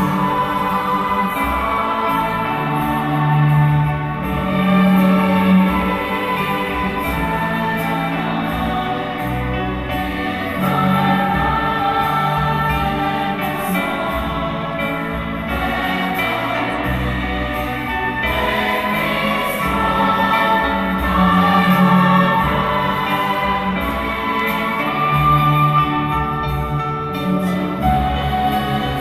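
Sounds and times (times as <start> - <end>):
large choir singing: 0.0 - 29.0
orchestra playing: 0.0 - 29.0.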